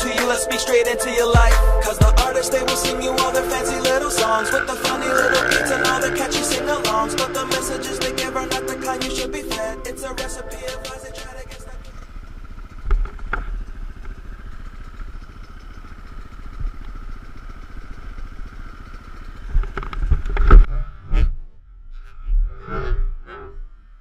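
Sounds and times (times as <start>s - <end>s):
dirt bike engine running: 0.0s - 21.1s.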